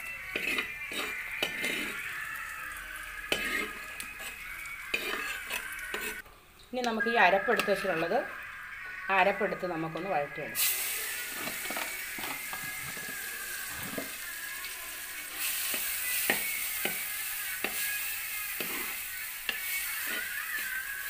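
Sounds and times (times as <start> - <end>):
spice paste sizzling in a pot: 0.0 - 6.2, 6.8 - 21.0.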